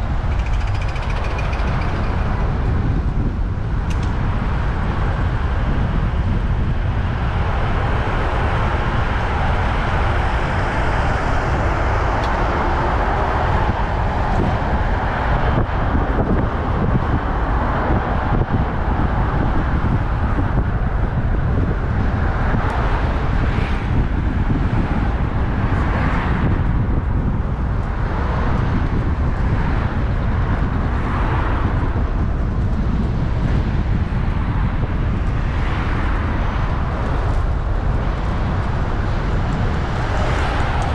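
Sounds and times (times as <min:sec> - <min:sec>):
road traffic passing: 0:00.0 - 0:40.9
wind rushing on microphone: 0:00.0 - 0:40.9.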